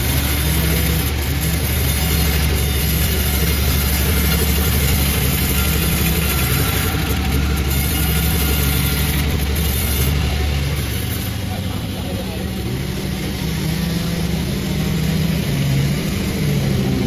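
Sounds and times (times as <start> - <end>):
motor droning steadily: 0.0 - 17.0.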